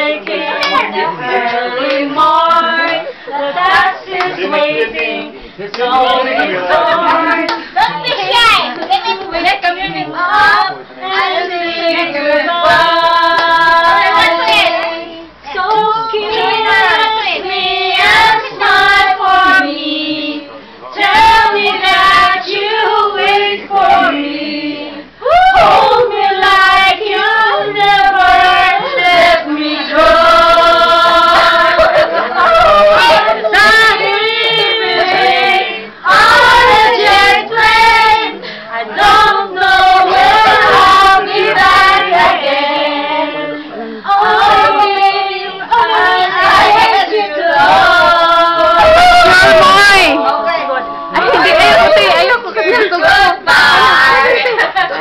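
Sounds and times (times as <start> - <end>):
women singing in chorus: 0.0 - 8.0, 9.3 - 55.0.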